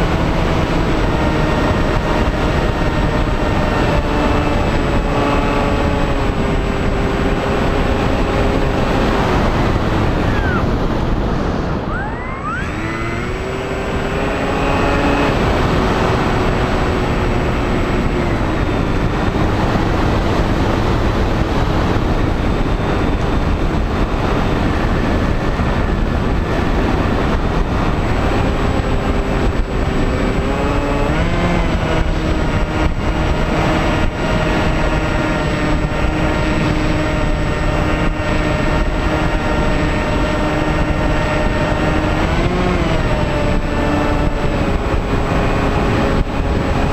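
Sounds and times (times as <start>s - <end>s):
electric motor and propeller whining: 0.0s - 46.9s
wind rush: 0.0s - 46.9s.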